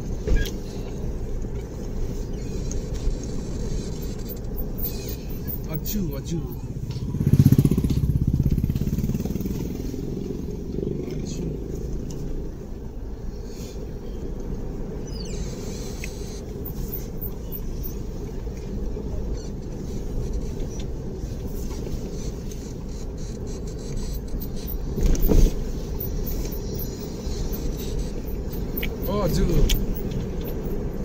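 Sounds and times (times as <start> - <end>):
car rumbling in motion: 0.0 - 31.0.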